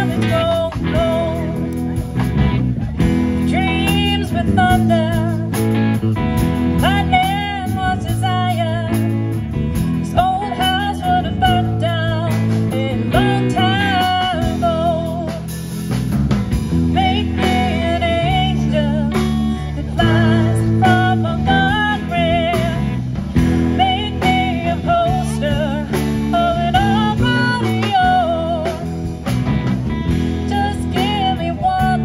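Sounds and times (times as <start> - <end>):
woman singing with vibrato: 0.0 - 1.7, 3.4 - 5.7, 6.7 - 9.4, 10.0 - 15.5, 16.8 - 29.2, 30.2 - 32.0
live rock band playing: 0.0 - 32.0.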